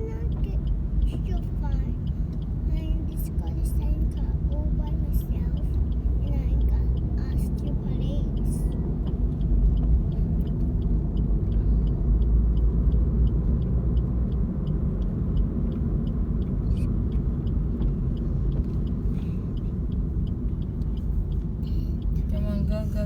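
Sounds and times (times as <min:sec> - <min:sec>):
car road and engine rumble: 0:00.0 - 0:23.0
light regular ticking: 0:00.0 - 0:23.0.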